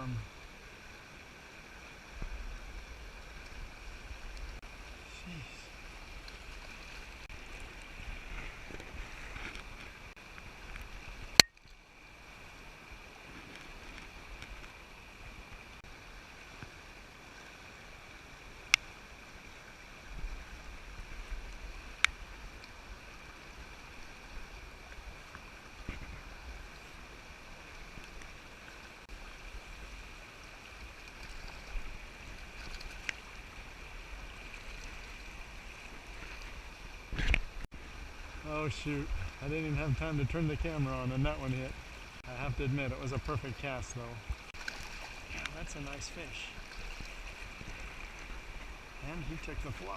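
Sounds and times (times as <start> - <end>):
rain: 0.0 - 49.9
stream water rushing: 0.0 - 49.9.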